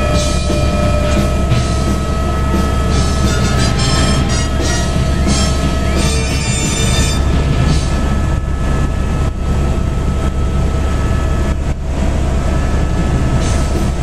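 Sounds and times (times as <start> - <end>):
helicopter engine and rotor drone: 0.0 - 14.0
whining tones: 0.0 - 14.0.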